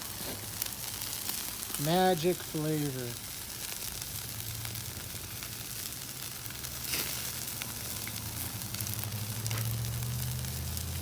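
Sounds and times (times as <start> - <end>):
fat dripping onto charcoal: 0.0 - 11.0
meat sizzling on a grill: 0.0 - 11.0.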